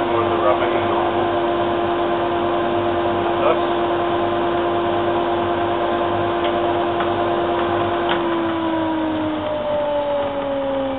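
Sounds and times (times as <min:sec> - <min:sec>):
bandsaw and extractor humming: 0:00.0 - 0:10.9
motor spinning down: 0:00.0 - 0:10.9.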